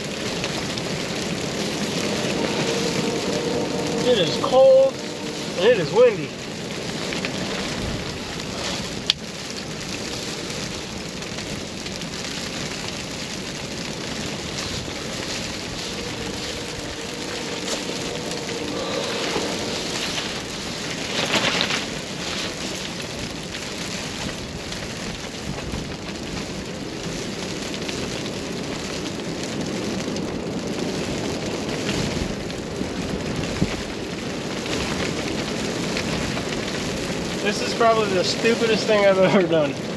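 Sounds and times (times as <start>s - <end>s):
strong storm wind: 0.0s - 39.9s
wind-driven rain: 0.0s - 39.9s.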